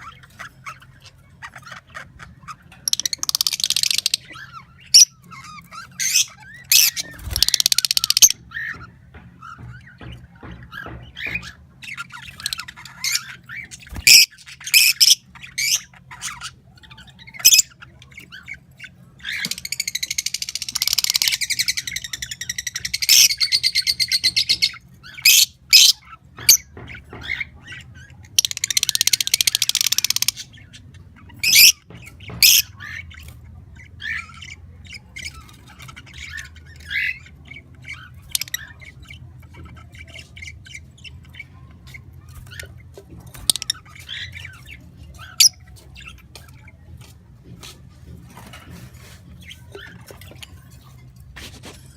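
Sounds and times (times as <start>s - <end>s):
birds rapid chattering: 0.0s - 51.9s
birds squawking and chirping: 0.0s - 51.9s.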